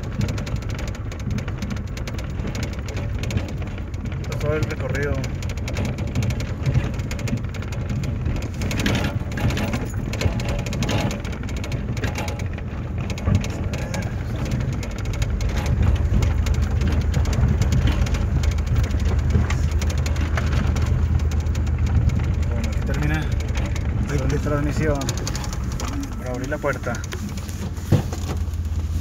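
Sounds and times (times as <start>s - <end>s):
car engine running: 0.0s - 29.0s
small knocks and rattles: 0.0s - 29.0s
tyres crackling over stones: 0.0s - 29.0s.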